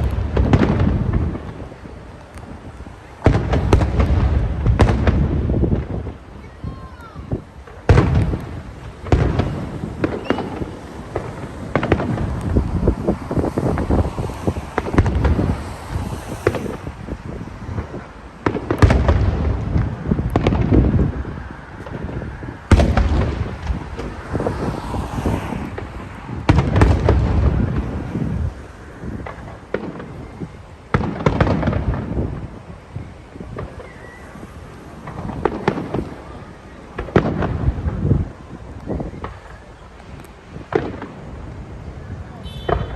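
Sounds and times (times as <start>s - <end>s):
fireworks bursting with sharp booms: 0.0s - 42.9s
fireworks crackling: 0.0s - 42.9s
small fireworks pops: 0.0s - 42.9s.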